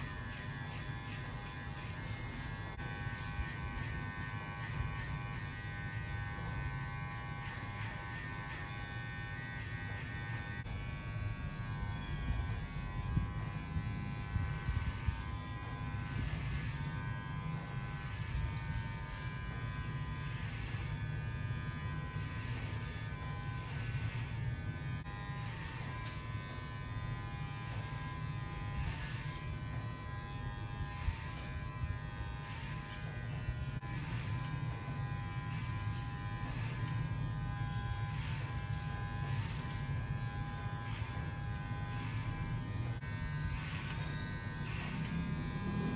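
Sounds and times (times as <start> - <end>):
electric hair clipper buzzing: 0.0 - 45.9.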